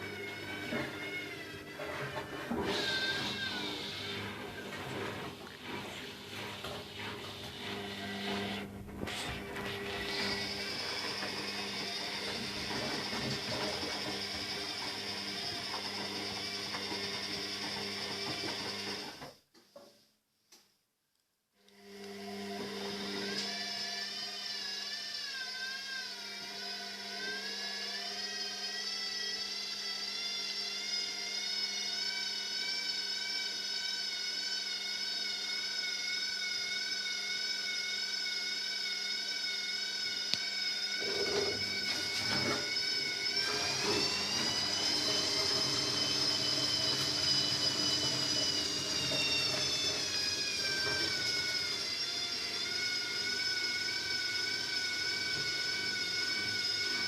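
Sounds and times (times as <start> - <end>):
washing machine spinning: 0.0 - 19.2, 21.9 - 25.2, 26.1 - 57.0.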